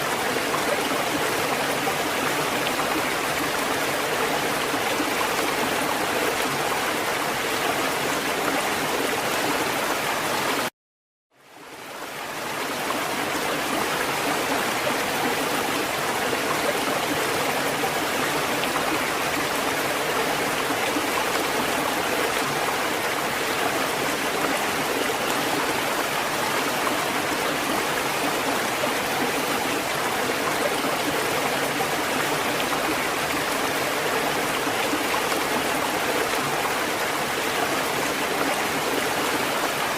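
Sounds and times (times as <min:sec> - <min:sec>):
rushing water: 0:00.0 - 0:10.7, 0:11.4 - 0:39.9.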